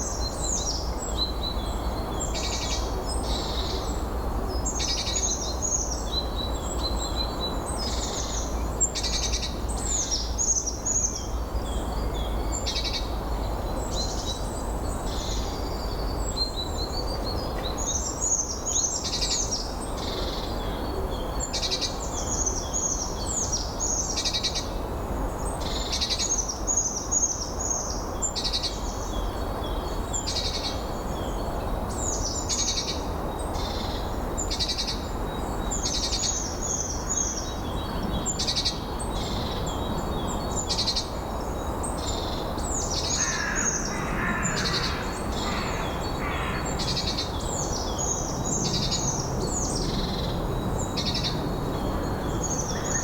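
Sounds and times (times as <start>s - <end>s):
songbirds singing: 0.0s - 53.0s.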